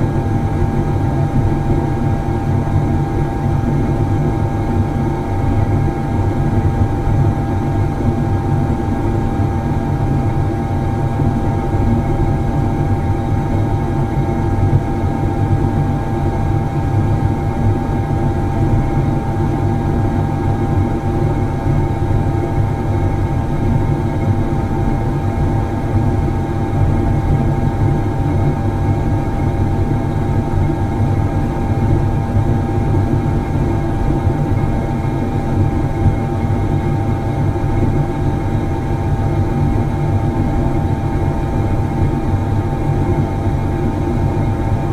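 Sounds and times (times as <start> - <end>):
constant hum tone: 0.0 - 44.9.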